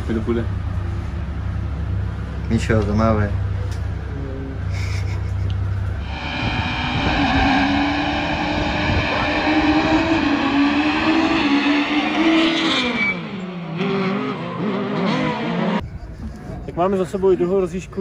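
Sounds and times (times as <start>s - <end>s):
race car engines revving: 0.0s - 15.9s.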